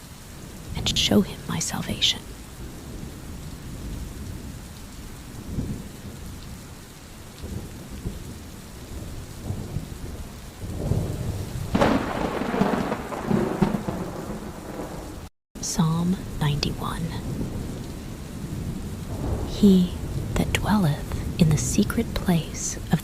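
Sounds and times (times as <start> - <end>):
rain falling steadily: 0.0 - 23.0
rolling thunder: 2.3 - 22.9.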